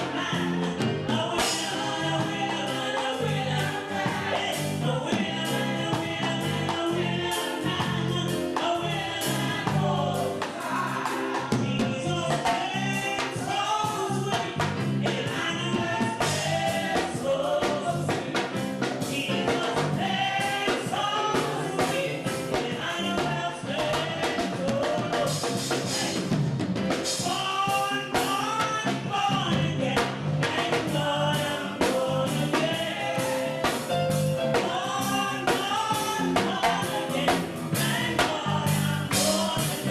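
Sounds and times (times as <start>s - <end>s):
band with beat and bass: 0.0s - 39.9s
voices singing gospel: 0.0s - 39.9s.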